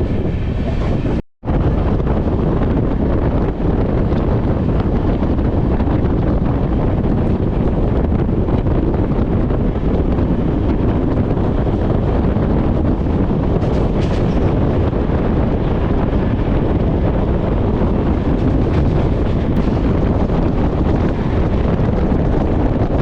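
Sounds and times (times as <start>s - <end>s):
moving train rumble: 0.0s - 23.0s
wind buffeting microphone: 0.0s - 23.0s.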